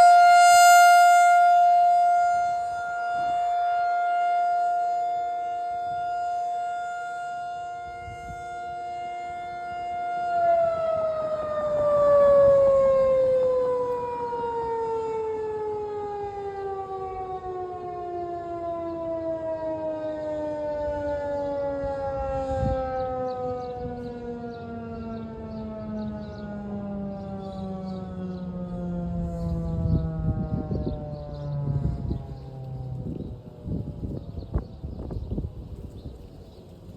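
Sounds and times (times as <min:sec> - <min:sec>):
warning siren winding down: 0:00.0 - 0:36.9.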